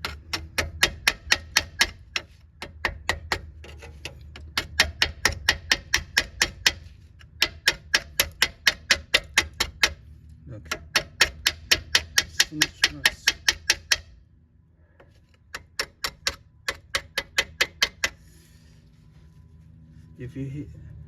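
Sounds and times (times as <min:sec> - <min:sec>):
tool tapping on rusted metal: 0:00.0 - 0:14.2, 0:14.9 - 0:18.4.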